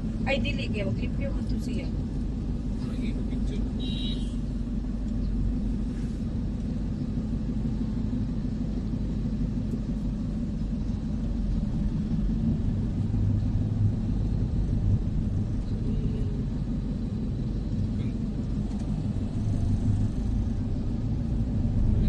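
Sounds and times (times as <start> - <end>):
deeper drone: 0.0 - 22.0
low engine rumble: 0.0 - 22.0
road noise: 0.0 - 22.0.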